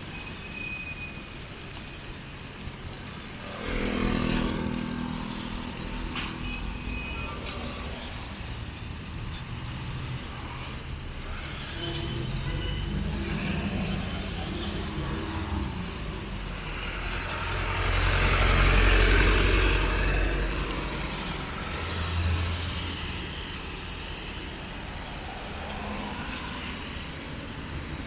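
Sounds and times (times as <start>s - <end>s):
vehicle passing: 3.4s - 8.1s, 9.6s - 28.0s.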